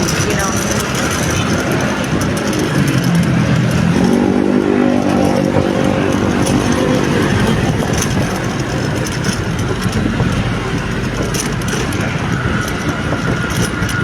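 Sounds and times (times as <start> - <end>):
vehicle engine running: 0.0 - 14.0
wind noise: 0.0 - 14.0.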